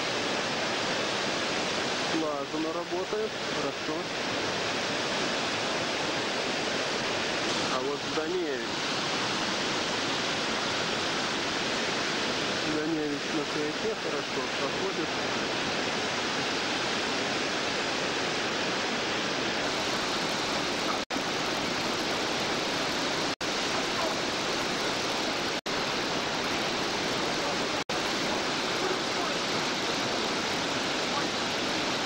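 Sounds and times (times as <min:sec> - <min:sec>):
whitewater rapids roaring: 0:00.0 - 0:32.0.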